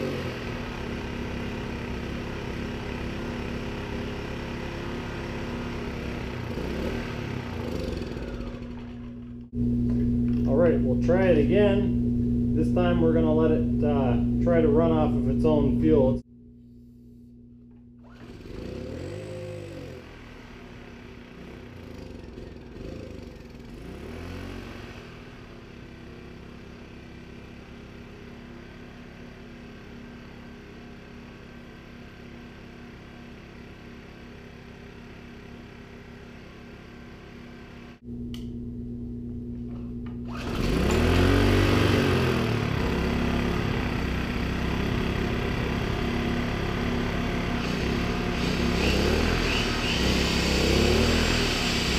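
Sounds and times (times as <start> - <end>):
generator engine starting and running: 0.0 - 51.9.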